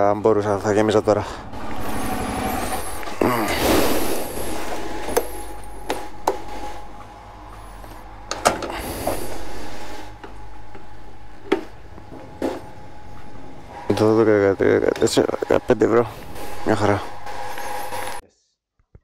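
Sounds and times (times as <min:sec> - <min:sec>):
fuel pump hum: 0:00.0 - 0:18.2
fuel flowing: 0:00.1 - 0:18.2.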